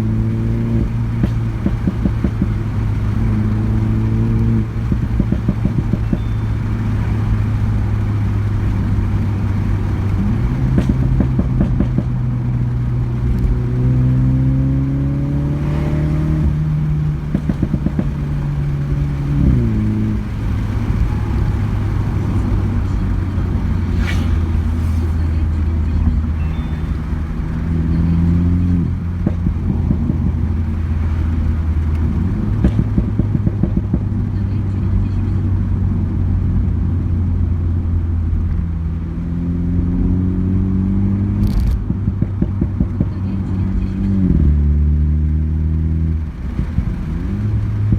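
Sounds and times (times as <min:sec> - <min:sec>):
exhaust pops and crackles: 0:00.0 - 0:39.4, 0:40.8 - 0:47.9
car engine accelerating: 0:00.0 - 0:47.9.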